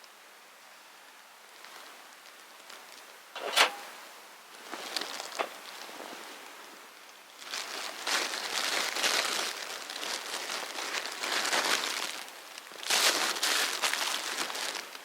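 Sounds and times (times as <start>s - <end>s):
rustling and crinkling: 1.5s - 15.0s.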